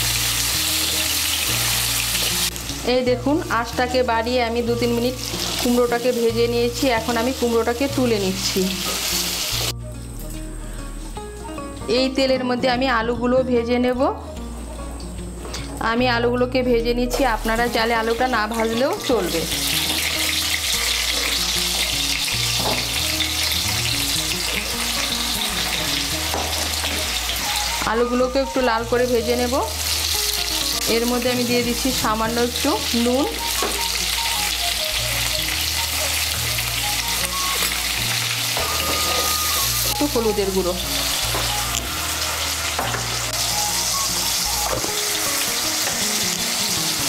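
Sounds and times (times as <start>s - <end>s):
potatoes sizzling in hot oil: 0.0s - 9.7s, 17.1s - 47.0s.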